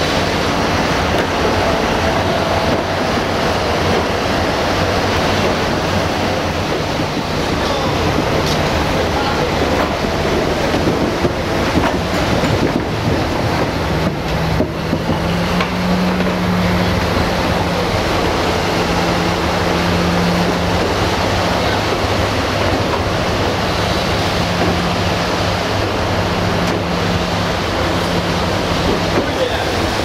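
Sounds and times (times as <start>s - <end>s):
rain: 0.0s - 30.0s.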